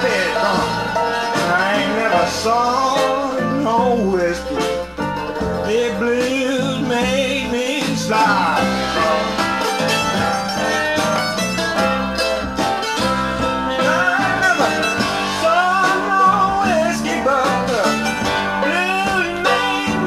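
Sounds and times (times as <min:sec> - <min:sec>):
blues country rock guitar music: 0:00.0 - 0:20.0.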